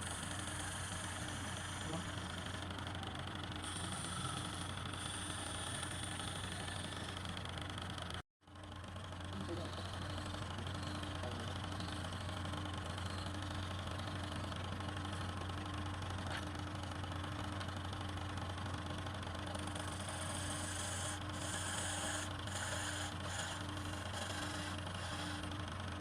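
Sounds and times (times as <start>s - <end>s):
tool scraping spinning wood: 0.0s - 8.2s, 9.0s - 26.0s
wood lathe motor humming: 0.0s - 26.0s.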